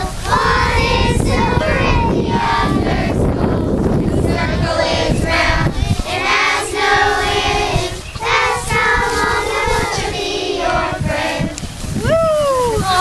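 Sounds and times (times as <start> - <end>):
girls singing together: 0.0 - 11.9.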